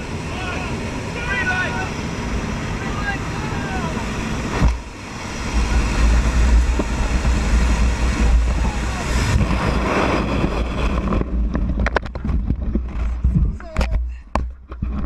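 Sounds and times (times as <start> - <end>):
aircraft engine rush: 0.0 - 14.3
wind buffeting microphone: 0.0 - 15.0.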